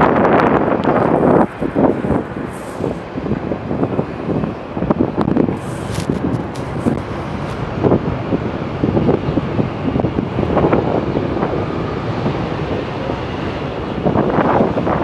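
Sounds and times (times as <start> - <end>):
subway train running on track: 0.0 - 15.0.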